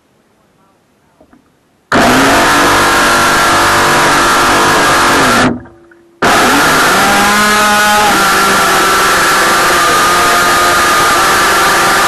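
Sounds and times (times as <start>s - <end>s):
model boat motor running: 1.9s - 12.0s
water rushing under boat: 1.9s - 12.0s.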